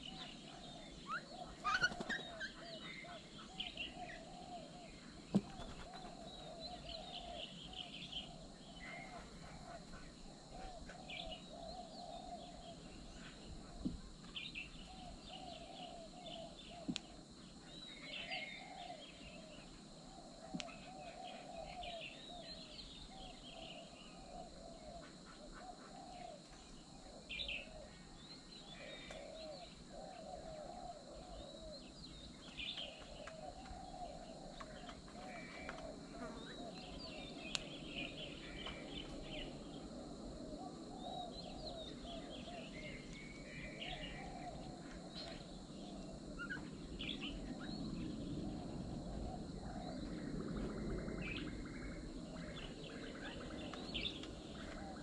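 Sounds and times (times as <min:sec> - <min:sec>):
birds chirping: 0:00.0 - 0:40.0, 0:40.6 - 0:55.0.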